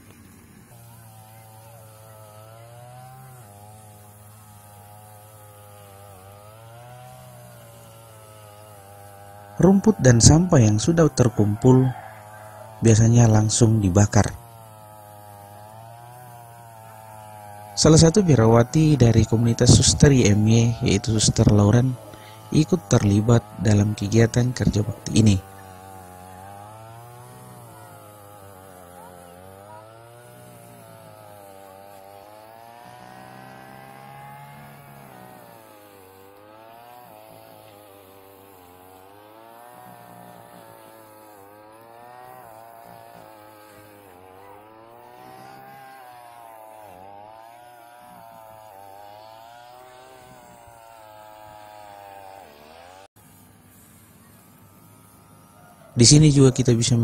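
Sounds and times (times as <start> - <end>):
brush cutter engine revving: 0.0 - 57.0.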